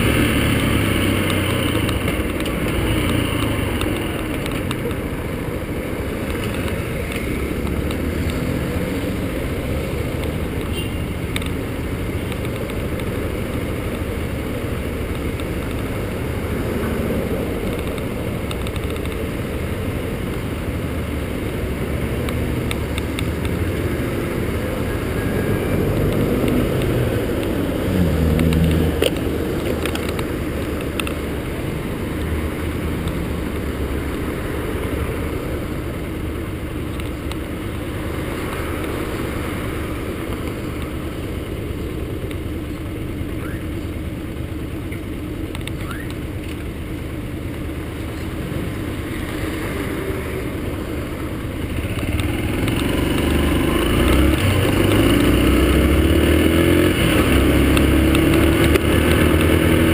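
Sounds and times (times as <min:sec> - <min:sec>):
city traffic passing: 0:00.0 - 0:59.9.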